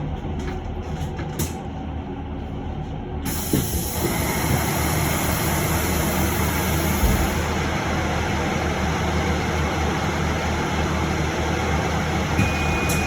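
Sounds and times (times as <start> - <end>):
bus cabin hum: 0.0 - 13.0.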